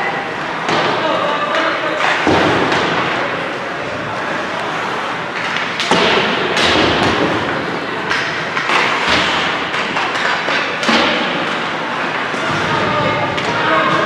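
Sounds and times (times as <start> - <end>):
din of voices in a hall: 0.0 - 14.0.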